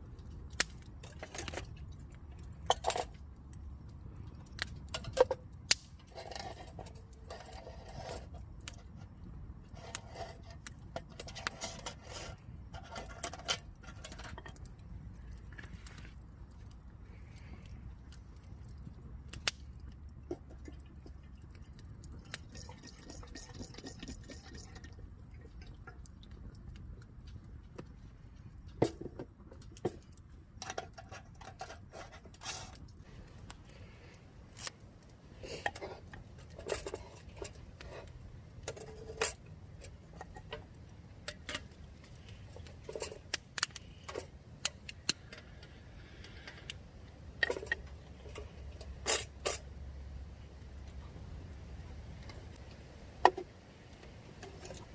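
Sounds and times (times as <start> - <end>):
low steady rumble: 0.0 - 54.9.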